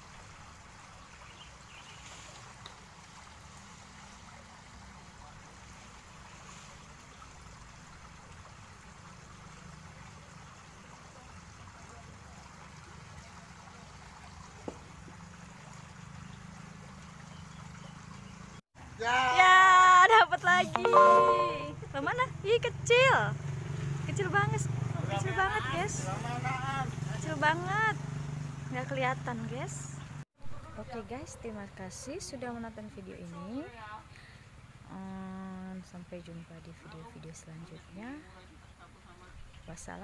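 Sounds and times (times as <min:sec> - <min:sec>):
water trickling through culvert: 0:00.0 - 0:20.3, 0:22.1 - 0:40.0.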